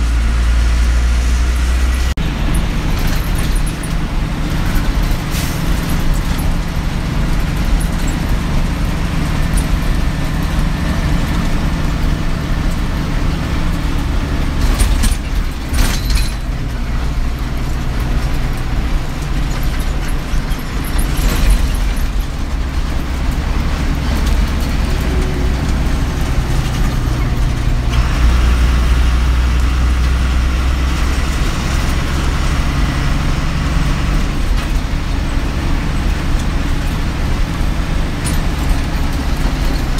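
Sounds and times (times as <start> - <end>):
bus engine running: 0.0 - 39.9
tyre and road noise: 0.0 - 39.9.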